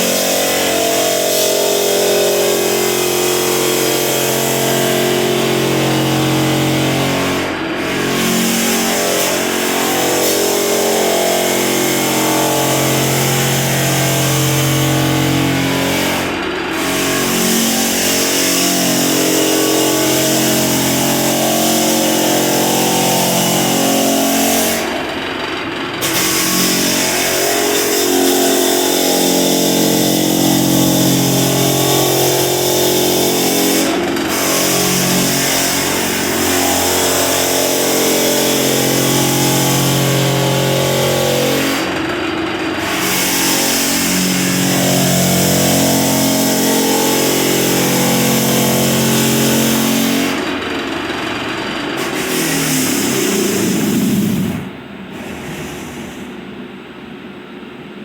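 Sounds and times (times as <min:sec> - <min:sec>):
floor sander running: 0:00.0 - 0:57.4.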